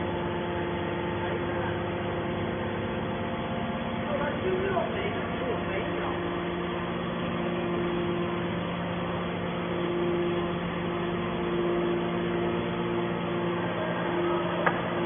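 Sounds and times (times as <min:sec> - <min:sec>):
baler machine humming: 0:00.0 - 0:15.0.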